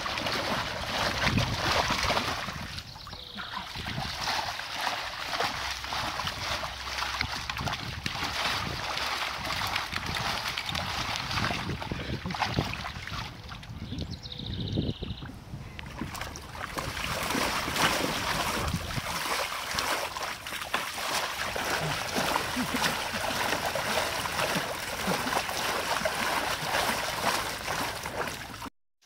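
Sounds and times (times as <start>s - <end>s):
dog splashing water: 0.0s - 13.7s, 15.8s - 28.7s.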